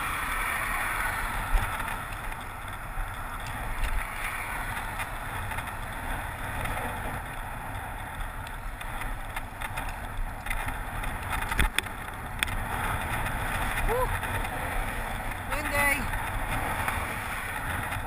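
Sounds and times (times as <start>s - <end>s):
bicycle tyres rumbling on tarmac: 0.0s - 18.0s.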